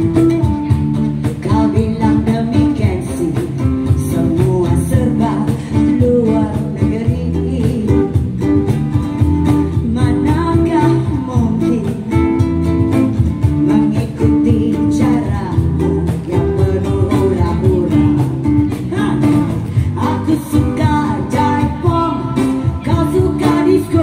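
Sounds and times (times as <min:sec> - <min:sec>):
bass guitar line: 0:00.0 - 0:24.0
strummed acoustic guitar: 0:00.0 - 0:24.0
woman singing: 0:01.1 - 0:24.0.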